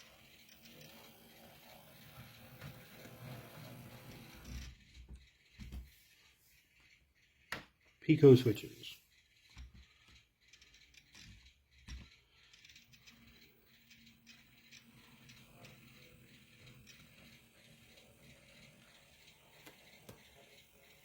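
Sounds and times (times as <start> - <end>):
model train motor whirring: 0.0 - 21.0
wheels clicking on track: 0.0 - 21.0.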